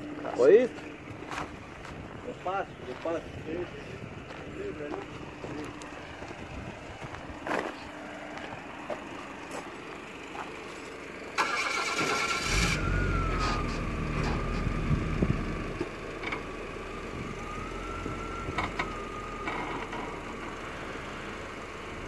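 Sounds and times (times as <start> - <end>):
vehicle engine cranking and idling: 0.0 - 22.0.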